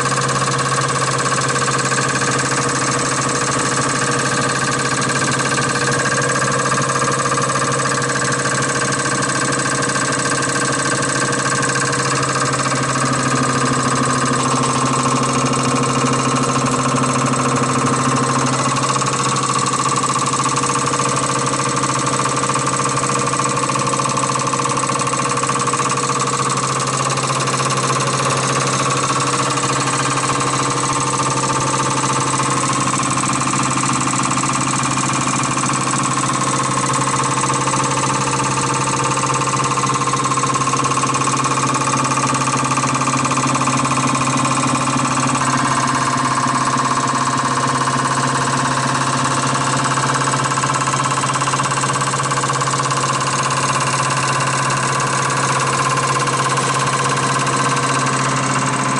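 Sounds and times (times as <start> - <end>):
machine humming with whine: 0.0 - 58.9.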